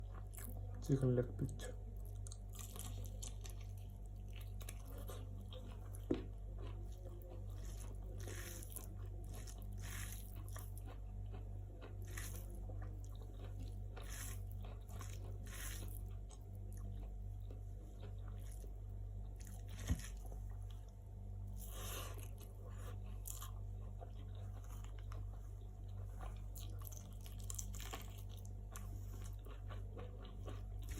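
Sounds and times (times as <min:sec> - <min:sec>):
chewing and crunching: 0:00.0 - 0:30.9
steady low hum: 0:00.0 - 0:30.9.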